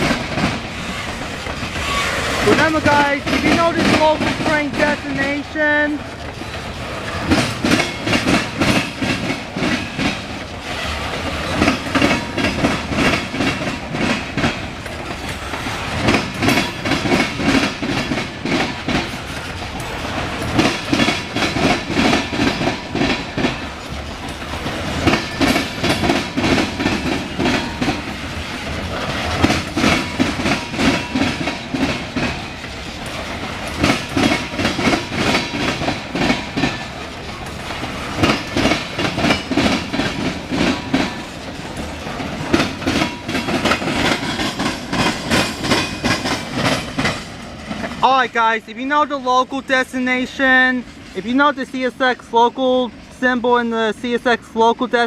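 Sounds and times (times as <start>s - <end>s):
wheels clicking over rail joints: 0.0s - 49.2s
freight train rumble: 0.0s - 55.0s.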